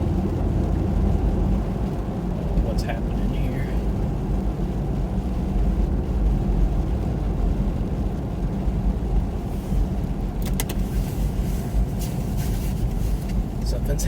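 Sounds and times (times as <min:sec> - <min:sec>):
car engine and tyres on snow: 0:00.0 - 0:14.0.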